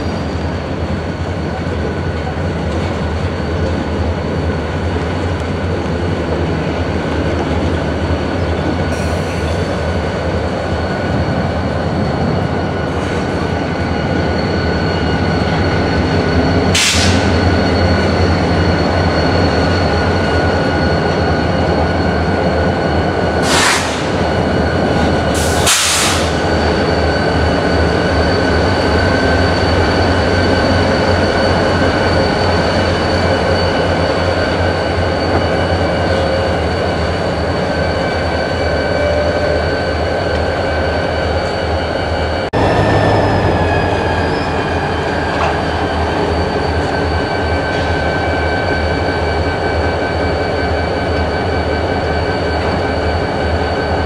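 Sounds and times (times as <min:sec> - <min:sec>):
diesel locomotive rumble: 0:00.0 - 0:40.6, 0:41.2 - 0:50.0
freight car wheels squealing: 0:06.5 - 0:54.0.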